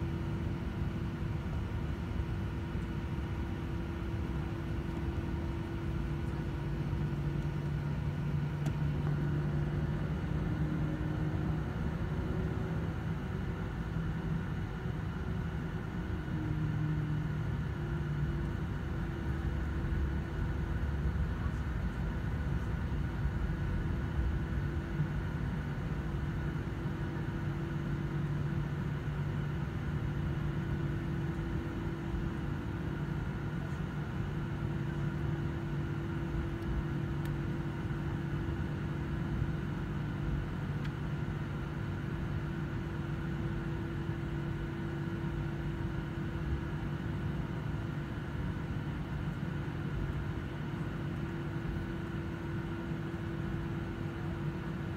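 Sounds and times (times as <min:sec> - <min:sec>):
jet engine hum: 0:00.0 - 0:54.9.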